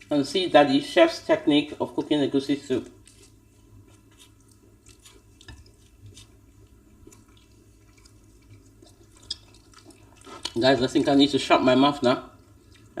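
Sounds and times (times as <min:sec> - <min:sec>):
wet chewing and squelching: 0:02.0 - 0:13.0.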